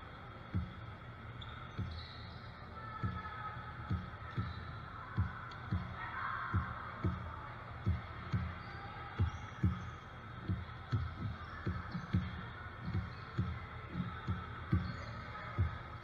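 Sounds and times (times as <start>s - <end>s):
low dull thumps: 0.0s - 16.0s
murmur of gym crowd: 0.0s - 16.0s.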